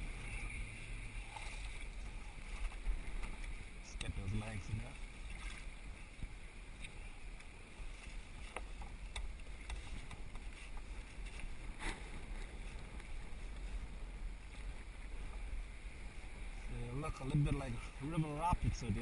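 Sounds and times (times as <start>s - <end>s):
water splashing against kayak: 0.0s - 19.0s
wind rumble on microphone: 0.0s - 19.0s.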